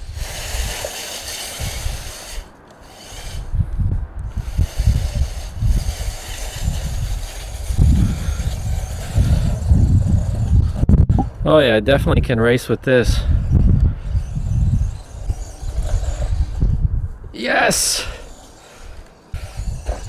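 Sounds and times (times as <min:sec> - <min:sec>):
rc truck hiss over dirt: 0:00.0 - 0:10.9, 0:12.9 - 0:20.0.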